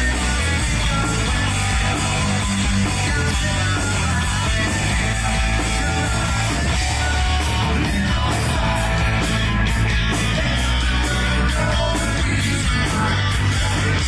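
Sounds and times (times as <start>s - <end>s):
hard rock band playing live: 0.0s - 14.0s.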